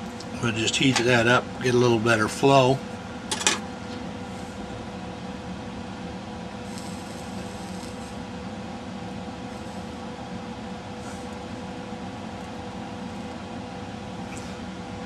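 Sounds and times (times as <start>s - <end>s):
equipment humming: 0.0s - 15.0s.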